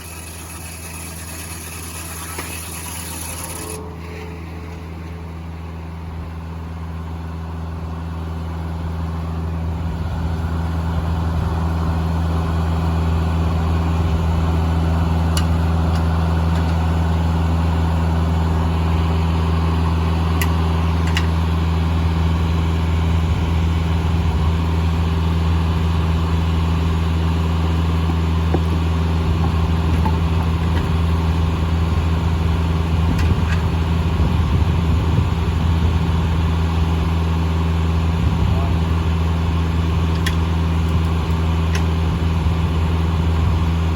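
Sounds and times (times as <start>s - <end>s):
sawmill engine humming: 0.0s - 43.9s.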